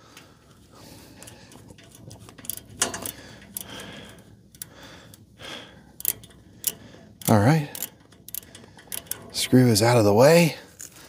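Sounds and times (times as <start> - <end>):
metal clicks and ticks: 0.0 - 11.0.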